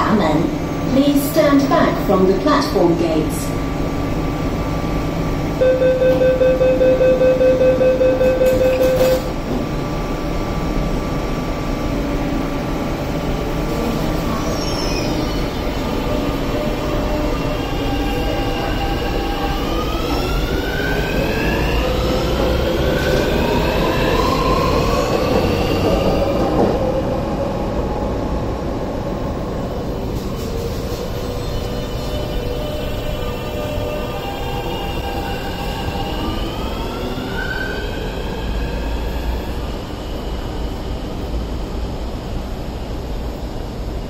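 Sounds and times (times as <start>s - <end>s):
train low rumble: 0.0s - 44.0s.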